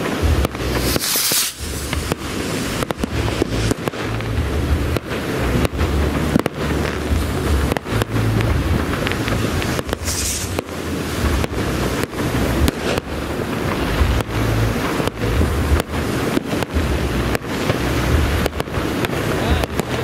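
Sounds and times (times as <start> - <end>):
fireworks bangs and crackles: 0.0 - 20.0
rushing hiss: 0.0 - 20.0
wind buffeting microphone: 0.0 - 20.0.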